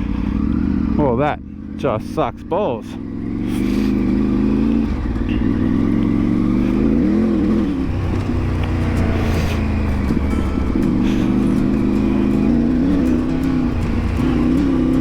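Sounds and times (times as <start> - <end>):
motorcycle engine running and revving: 0.0 - 15.0.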